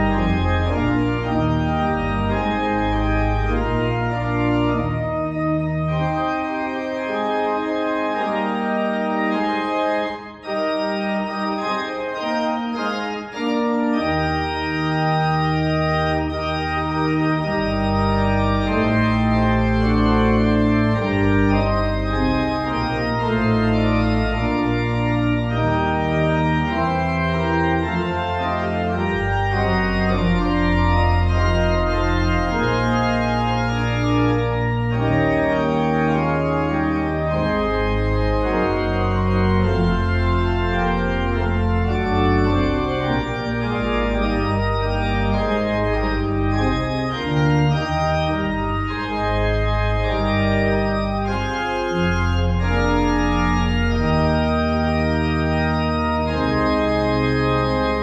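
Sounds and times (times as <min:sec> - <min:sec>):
deep organ bass notes: 0:00.0 - 0:58.0
organ chords: 0:00.0 - 0:58.0.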